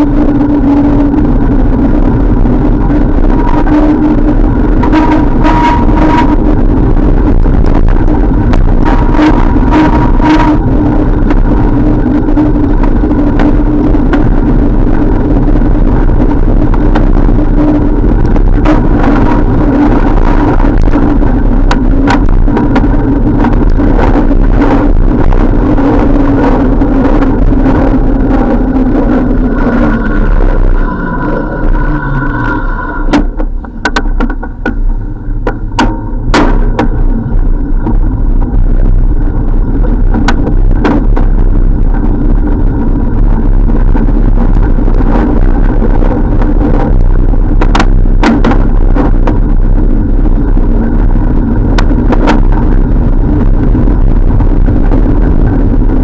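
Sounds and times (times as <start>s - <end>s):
constant hum: 0.0s - 56.0s
wind and road rumble: 0.0s - 56.0s.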